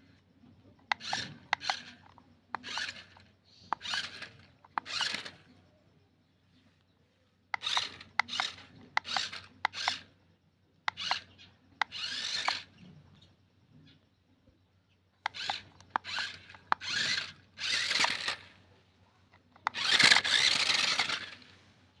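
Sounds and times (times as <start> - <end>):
toy car motor whirring: 0.1 - 5.8, 7.5 - 10.2, 10.9 - 13.3, 15.2 - 22.0.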